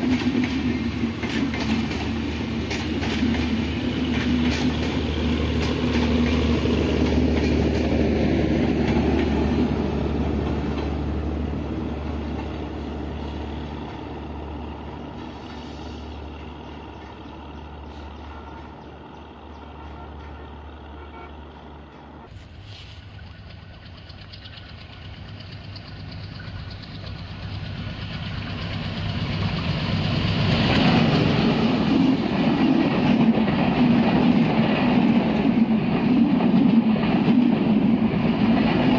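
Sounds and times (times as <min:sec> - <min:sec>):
train coaches rumbling past: 0:00.0 - 0:38.9.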